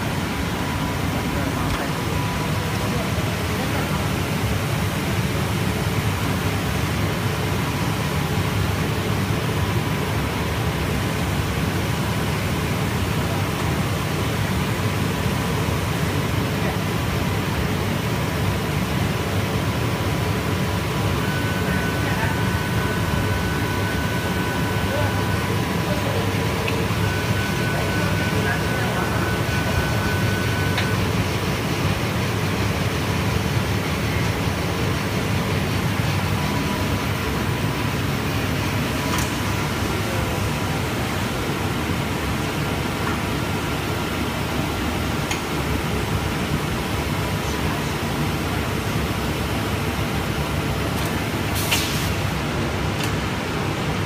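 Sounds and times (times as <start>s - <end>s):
machinery humming with rushing air: 0.0s - 54.0s.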